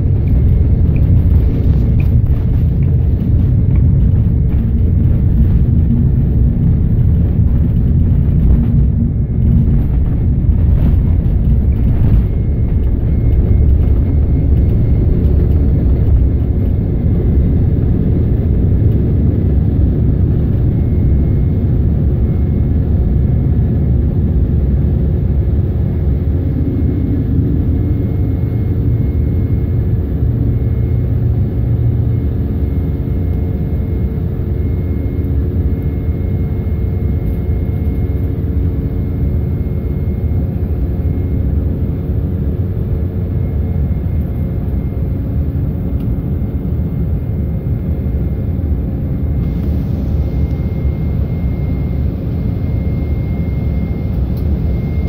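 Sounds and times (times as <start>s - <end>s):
takeoff roll rumble: 0.0s - 47.8s
airliner engines at takeoff power: 0.0s - 55.0s.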